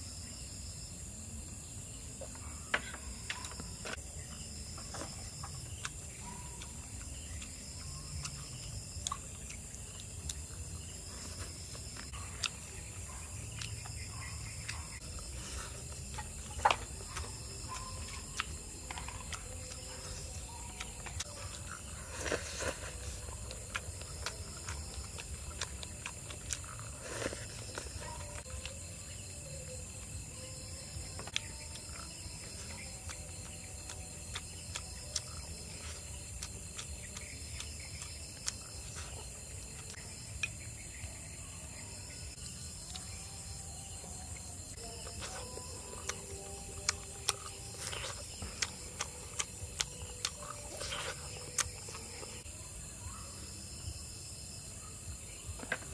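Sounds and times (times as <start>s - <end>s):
insects chirring: 0.0s - 55.9s.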